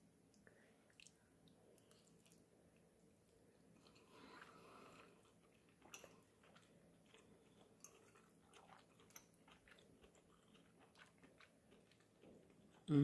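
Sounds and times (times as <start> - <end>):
faint chewing: 0.3 - 13.0.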